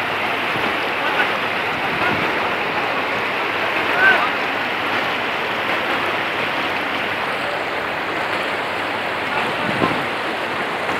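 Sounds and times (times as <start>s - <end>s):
river water rushing over stones: 0.0s - 10.9s.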